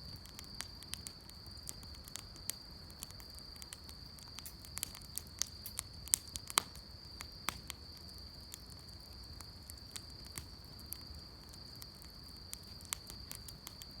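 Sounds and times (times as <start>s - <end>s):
crickets trilling: 0.0s - 14.0s
wood fire crackling and popping: 0.0s - 14.0s.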